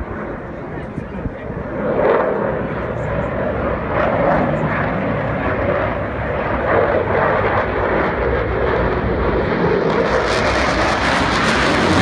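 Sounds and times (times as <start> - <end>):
fighter jet engine roaring: 0.0 - 12.0.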